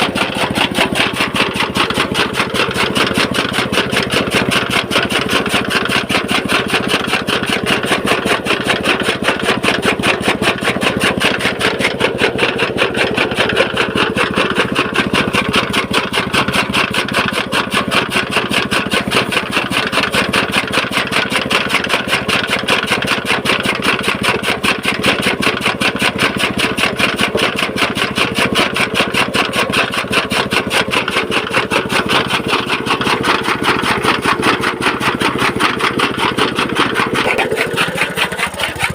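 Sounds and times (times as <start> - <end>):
petrol engine running steadily: 0.0 - 38.9.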